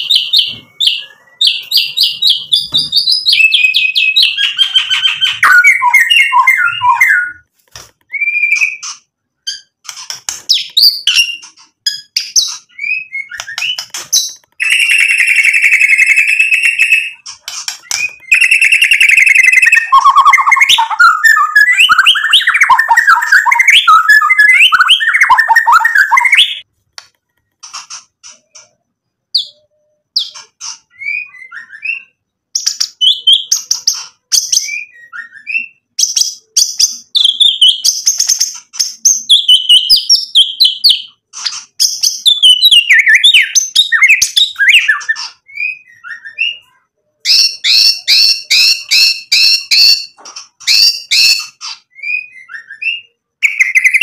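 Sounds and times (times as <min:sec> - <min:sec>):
songbird singing whistled phrases: 0:00.0 - 0:07.4, 0:08.1 - 0:09.0, 0:10.6 - 0:17.2, 0:17.8 - 0:26.6, 0:29.4 - 0:41.2, 0:41.8 - 0:54.0.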